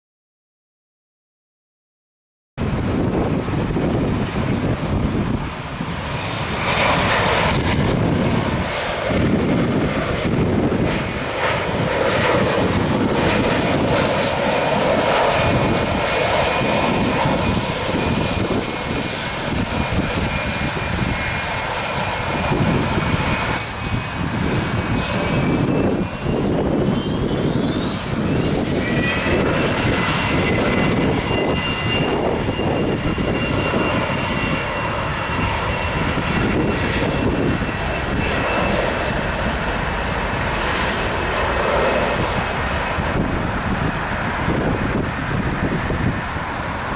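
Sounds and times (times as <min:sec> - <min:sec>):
jet engines running with whine: 0:02.6 - 0:46.9.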